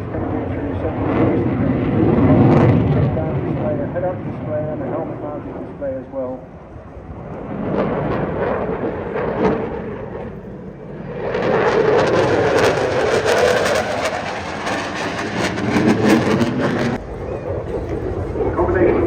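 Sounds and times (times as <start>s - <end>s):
jet engine roar with crackle: 0.0s - 19.0s.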